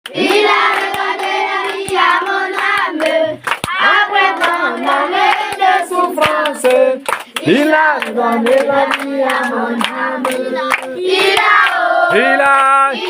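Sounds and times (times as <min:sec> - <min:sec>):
hand claps: 0:00.1 - 0:11.9
voices singing worship song: 0:00.1 - 0:13.0.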